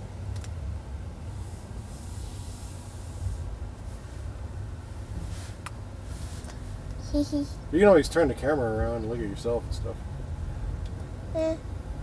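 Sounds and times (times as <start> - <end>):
soft hiss: 0.3 - 11.6.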